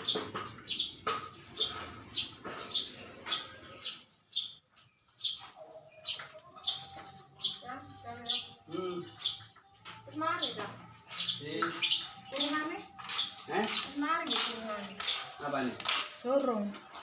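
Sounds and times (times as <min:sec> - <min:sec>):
bird chirping: 0:00.0 - 0:16.1.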